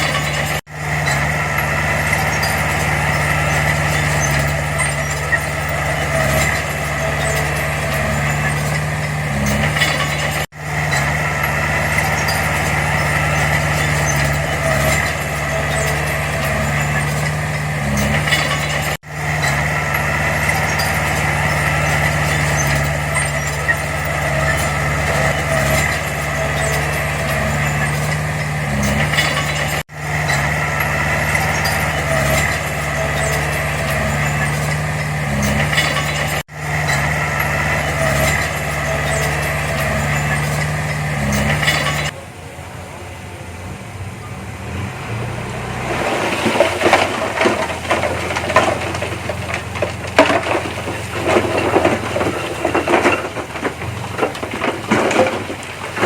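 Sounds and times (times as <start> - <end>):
heavy machine diesel engine running: 0.0 - 56.0.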